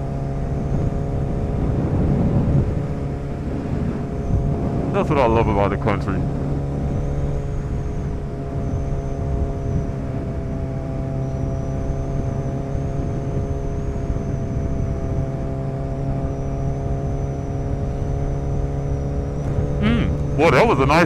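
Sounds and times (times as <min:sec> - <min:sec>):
motorcycle engine cruising: 0:00.0 - 0:21.0
wind and road noise: 0:00.0 - 0:21.0.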